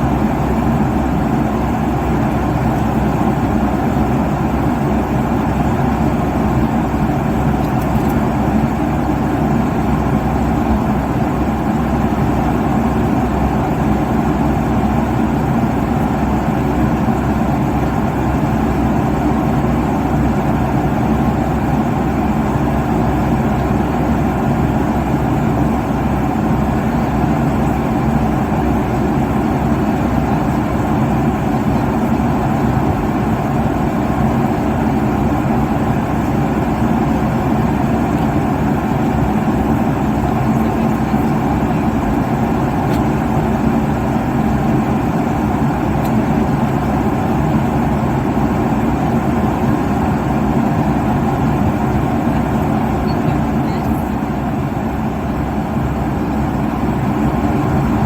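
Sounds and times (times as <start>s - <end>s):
airliner cabin engine rush: 0.0s - 58.0s
faint steady hum: 0.0s - 58.0s.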